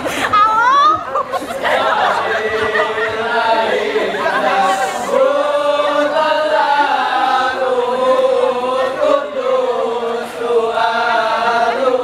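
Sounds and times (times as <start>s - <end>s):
men chanting in unison: 1.6s - 12.0s.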